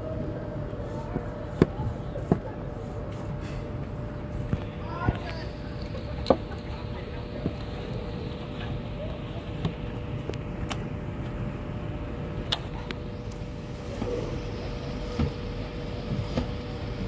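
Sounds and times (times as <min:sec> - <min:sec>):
low rumble with faint hum: 0:00.0 - 0:17.0.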